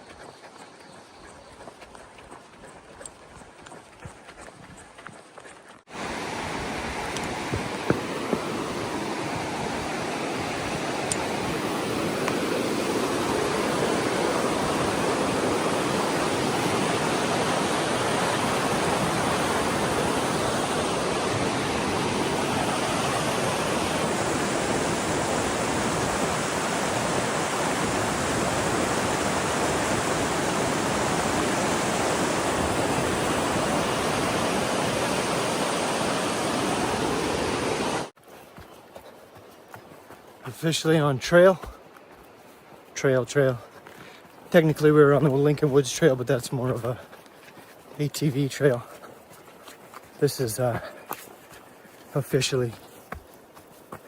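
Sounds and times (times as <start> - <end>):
rushing river water: 5.8 - 54.0.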